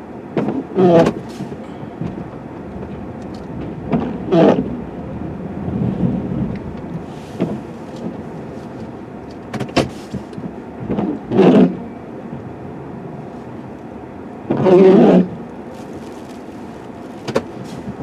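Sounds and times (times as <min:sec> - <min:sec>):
snow plow truck running: 0:00.0 - 0:18.0.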